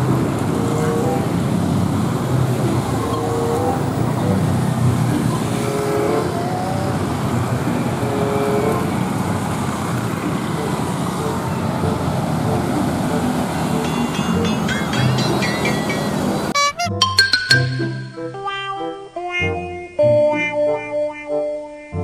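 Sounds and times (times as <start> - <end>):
road traffic rumble: 0.0 - 18.7.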